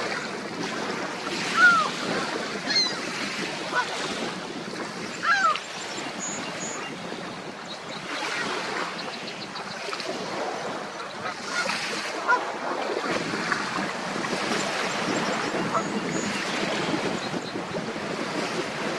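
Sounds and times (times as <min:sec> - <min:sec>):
lake waves lapping: 0:00.0 - 0:18.9
wind on microphone: 0:00.0 - 0:18.9.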